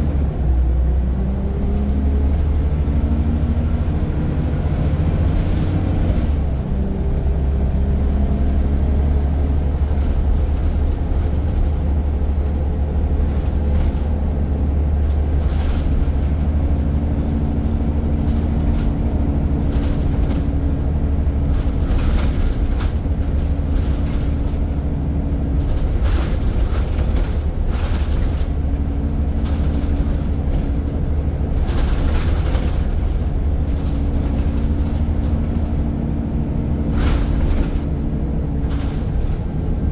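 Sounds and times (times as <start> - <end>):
bus body rattle: 0.0 - 39.9
bus engine rumbling: 0.0 - 39.9.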